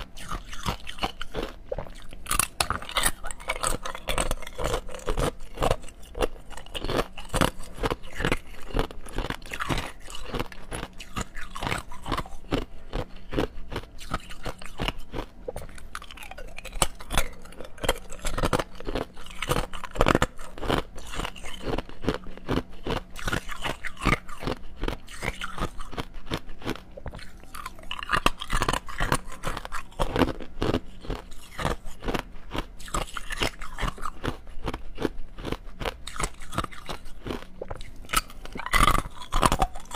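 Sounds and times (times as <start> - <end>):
ice cubes crunching in mouth: 0.0 - 39.9.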